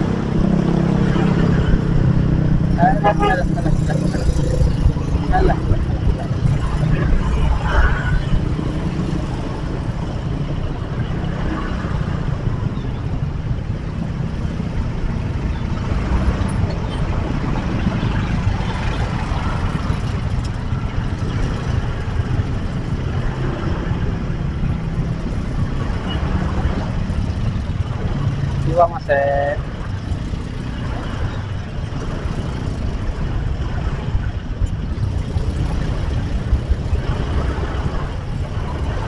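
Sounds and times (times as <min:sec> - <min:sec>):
low rumble of traffic engines: 0:00.0 - 0:39.0.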